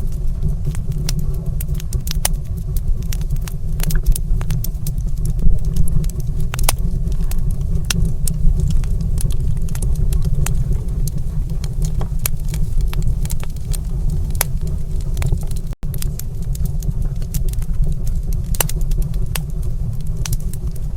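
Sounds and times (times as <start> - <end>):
wood fire crackling: 0.0 - 20.9.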